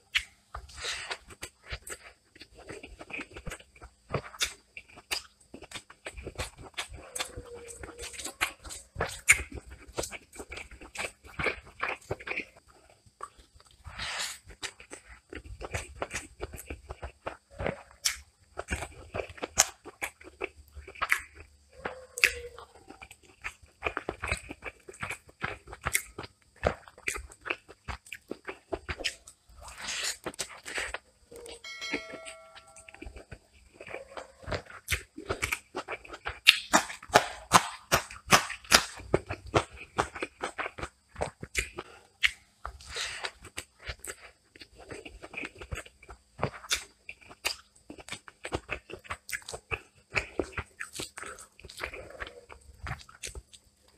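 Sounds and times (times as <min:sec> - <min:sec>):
man chewing food: 0:00.0 - 0:53.9.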